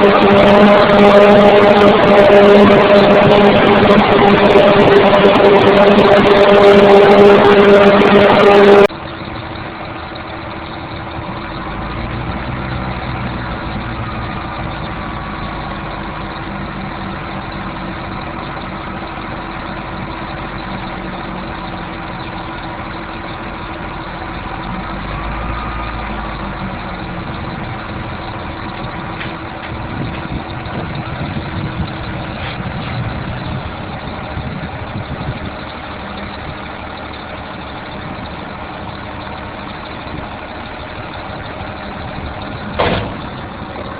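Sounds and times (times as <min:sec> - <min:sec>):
farm machinery engine running: 0:00.0 - 0:43.9.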